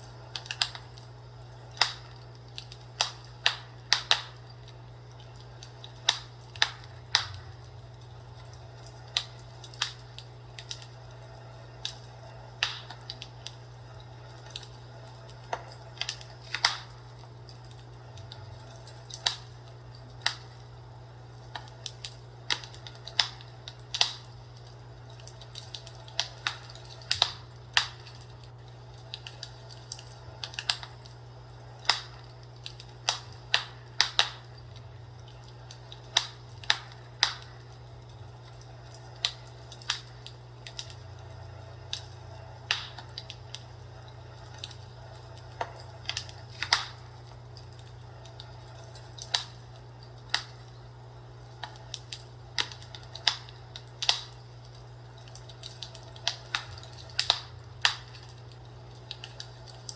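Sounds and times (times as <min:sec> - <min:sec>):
fire crackling and popping: 0:00.0 - 0:59.9
steady low hum: 0:00.0 - 0:59.9.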